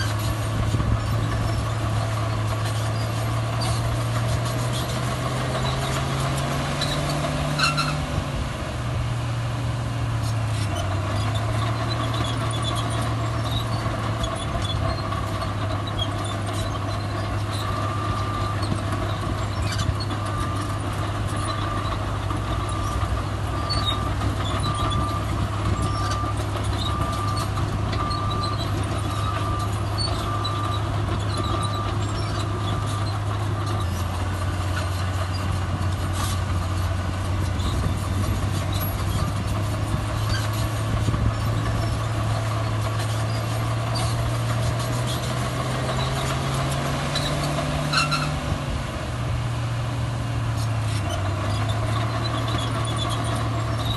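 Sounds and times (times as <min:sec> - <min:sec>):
diesel machinery engine running: 0:00.0 - 0:53.9.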